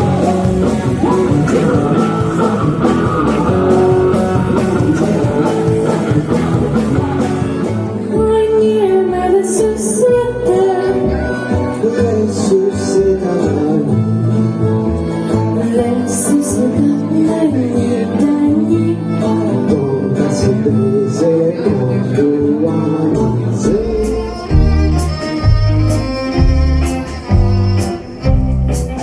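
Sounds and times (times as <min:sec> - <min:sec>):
guitar melody: 0:00.0 - 0:29.0
live band playing: 0:00.0 - 0:29.0.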